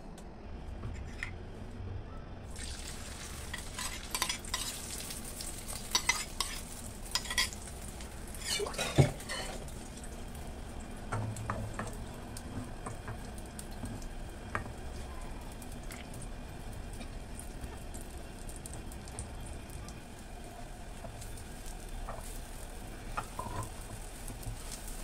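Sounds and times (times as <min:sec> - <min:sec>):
egg sizzling in hot oil: 0:02.5 - 0:25.0
oil crackles and pops: 0:02.5 - 0:25.0.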